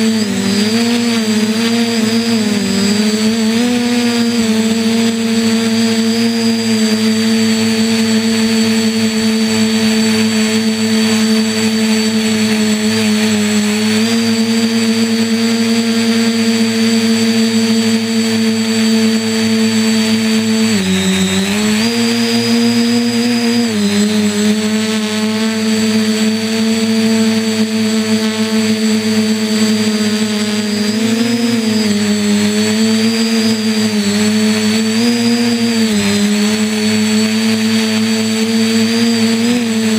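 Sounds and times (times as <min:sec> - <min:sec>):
drone motors humming with whine: 0:00.0 - 0:39.9.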